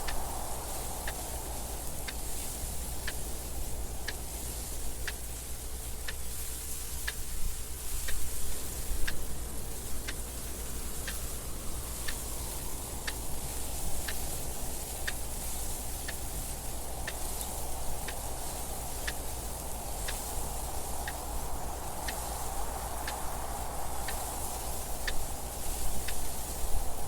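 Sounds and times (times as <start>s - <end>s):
clock ticking: 0.0s - 6.4s, 7.0s - 23.3s
wind noise with low rumble: 0.0s - 27.0s.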